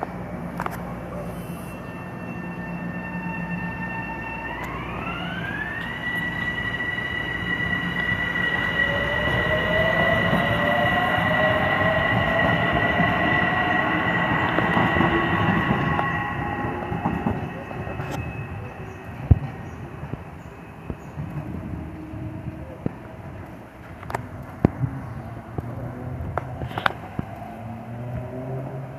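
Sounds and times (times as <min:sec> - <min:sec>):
train traction motors whining: 0:00.0 - 0:28.9
wheels rumbling on rails: 0:00.0 - 0:28.9.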